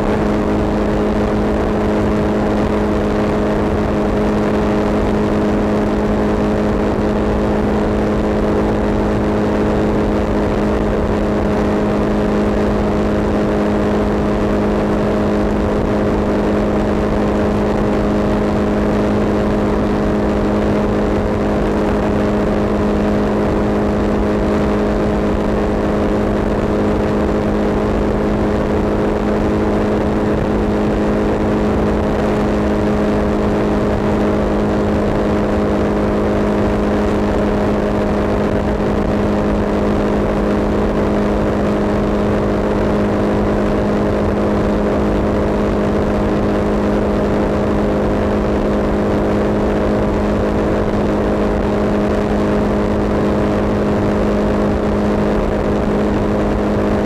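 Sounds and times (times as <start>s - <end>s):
engine drone: 0.0s - 57.0s.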